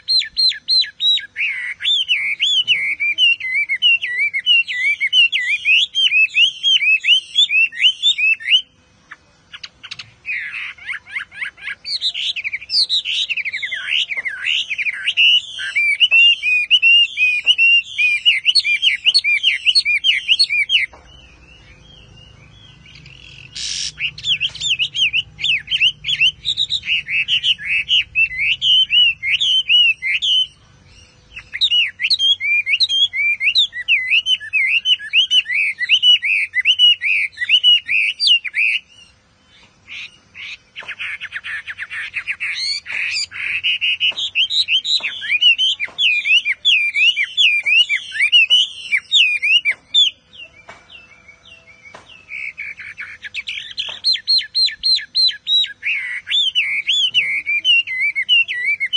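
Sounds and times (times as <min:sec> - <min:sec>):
bird singing whistled phrases: 0:00.0 - 0:58.9.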